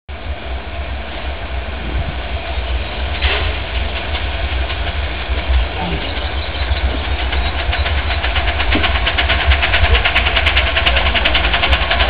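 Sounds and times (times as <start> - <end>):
low rumble: 0.1 - 12.0
steam locomotive beats: 0.1 - 12.0.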